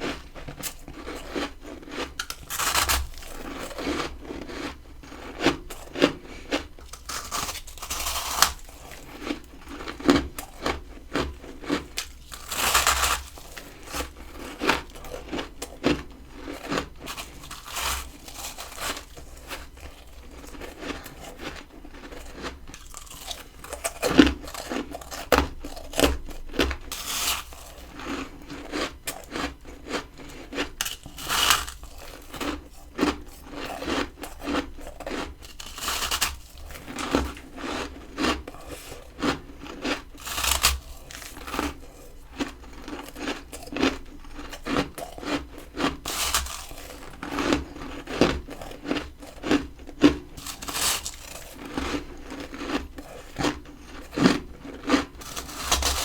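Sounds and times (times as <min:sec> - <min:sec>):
person chewing crunchy frost: 0:00.0 - 0:56.0.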